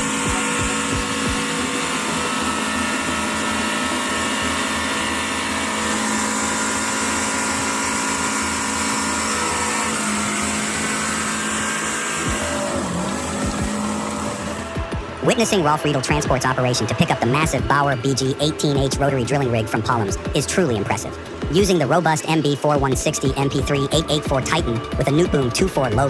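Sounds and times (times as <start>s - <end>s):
truck diesel engine running hard: 0.0s - 26.0s.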